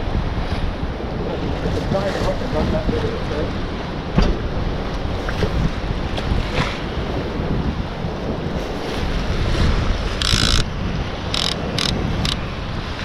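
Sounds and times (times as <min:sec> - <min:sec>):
waves washing against pier: 0:00.0 - 0:13.0
wind buffeting microphone: 0:00.0 - 0:13.0.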